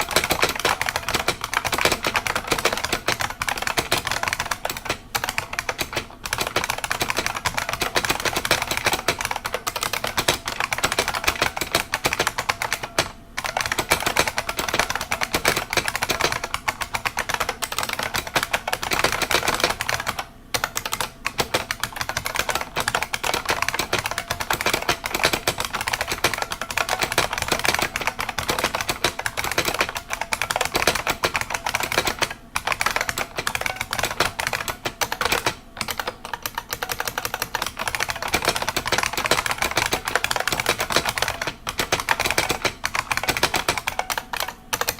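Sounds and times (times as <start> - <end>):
keyboard typing clicks: 0.0 - 44.9.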